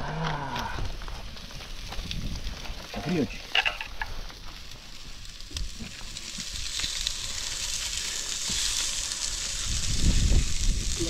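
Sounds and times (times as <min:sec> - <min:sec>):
meat sizzling on grill: 0:00.3 - 0:11.0.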